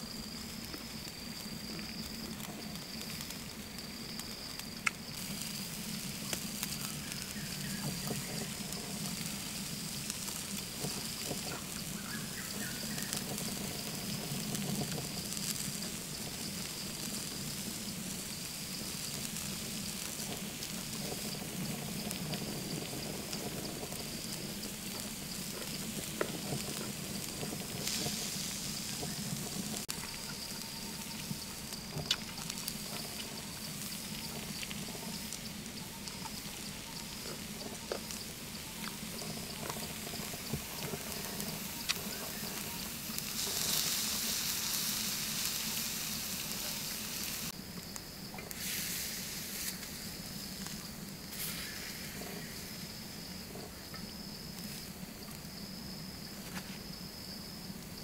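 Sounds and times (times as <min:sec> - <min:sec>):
high insect trill: 0:00.0 - 0:58.0
liver sizzling on hot rock: 0:00.0 - 0:58.0.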